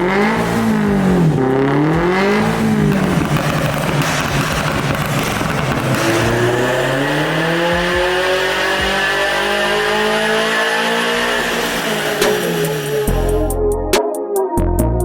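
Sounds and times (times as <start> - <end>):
car engine running: 0.0 - 13.6.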